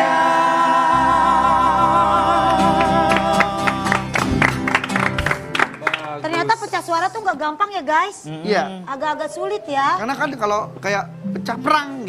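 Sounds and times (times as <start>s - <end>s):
musical accompaniment: 0.0s - 7.2s, 8.4s - 12.0s.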